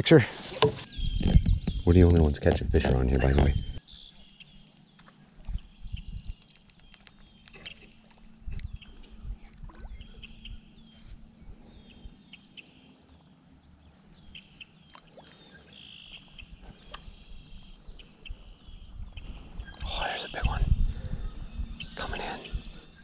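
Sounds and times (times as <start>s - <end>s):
birds chirping: 0.1s - 23.0s.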